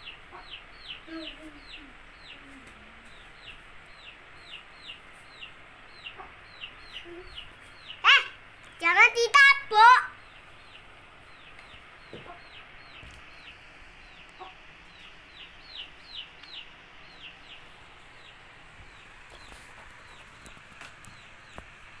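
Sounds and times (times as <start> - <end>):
bird peeping: 0.0 - 8.8, 10.2 - 21.7.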